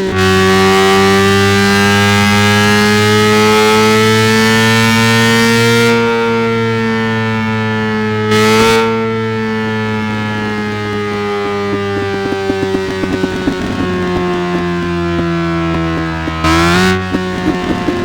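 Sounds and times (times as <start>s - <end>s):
engine at high revs: 0.0s - 18.0s.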